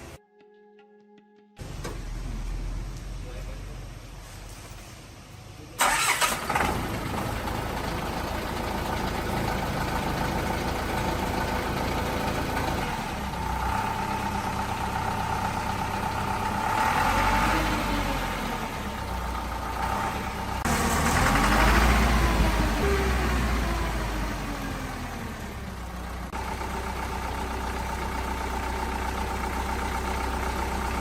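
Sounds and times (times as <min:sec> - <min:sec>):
diesel engine running: 0:01.6 - 0:31.0.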